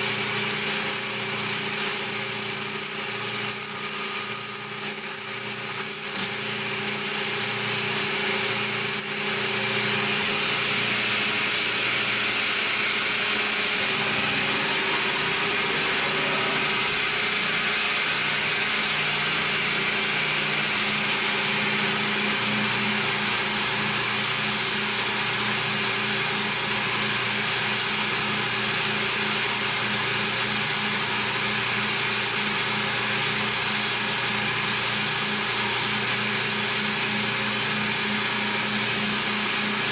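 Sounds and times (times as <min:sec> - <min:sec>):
metal cutting noise: 0:00.0 - 0:39.9
milling machine spindle whine: 0:00.0 - 0:39.9.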